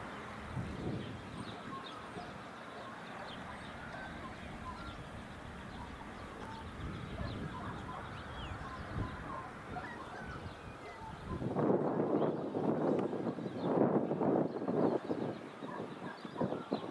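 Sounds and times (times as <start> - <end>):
birds chirping: 0.0 - 16.9
wind gusting on microphone: 0.0 - 16.9.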